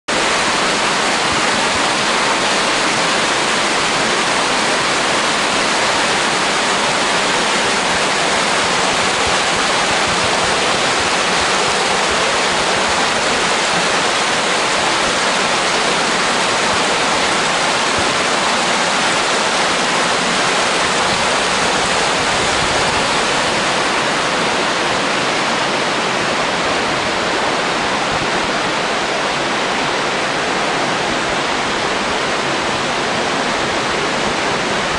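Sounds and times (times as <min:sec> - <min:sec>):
water rushing over rocks: 0:00.1 - 0:34.9.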